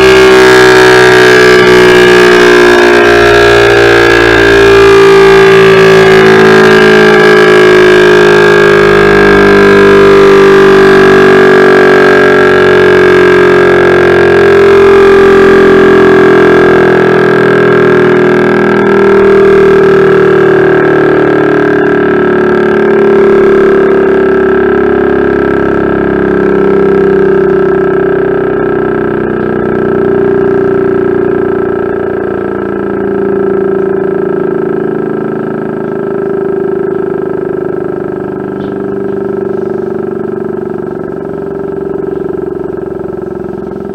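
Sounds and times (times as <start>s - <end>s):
civil defence siren howling: 0.0s - 43.9s.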